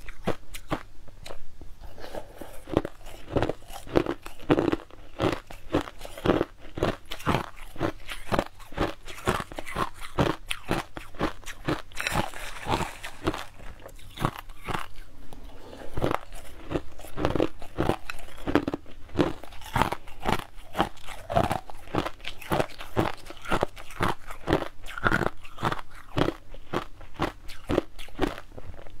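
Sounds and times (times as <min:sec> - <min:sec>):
person chewing crushed ice: 0:00.0 - 0:29.0.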